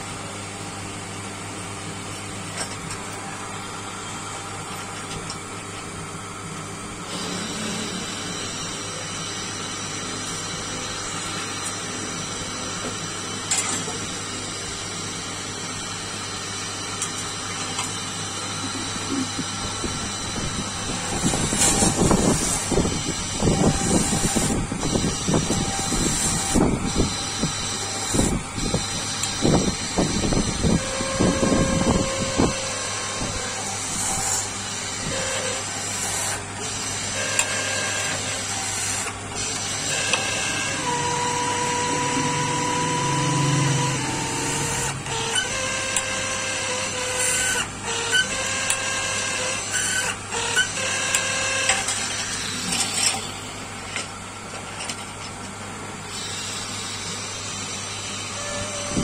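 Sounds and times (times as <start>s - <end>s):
tool whining on workpiece: 0.0s - 59.0s
power tool humming: 5.1s - 53.2s.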